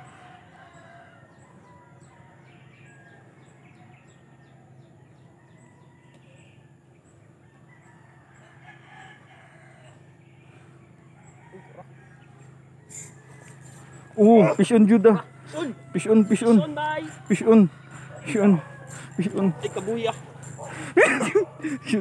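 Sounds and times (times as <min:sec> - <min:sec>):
rooster crowing: 0:00.0 - 0:03.4, 0:04.0 - 0:06.6, 0:07.4 - 0:10.4, 0:11.0 - 0:22.0.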